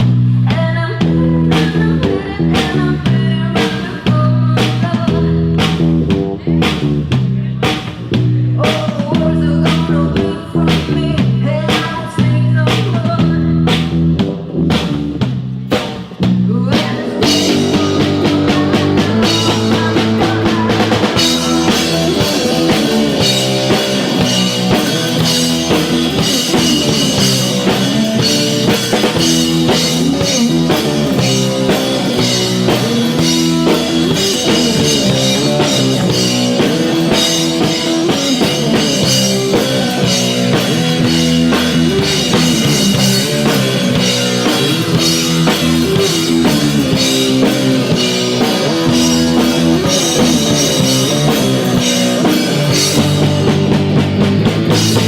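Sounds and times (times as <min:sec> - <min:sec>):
drum kit: 0:00.0 - 0:55.0
rock band playing: 0:00.0 - 0:55.0.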